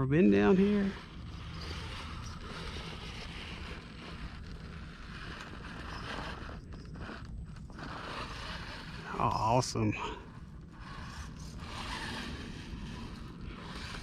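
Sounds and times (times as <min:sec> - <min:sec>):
toy car electric motor and gears: 0:00.0 - 0:14.0.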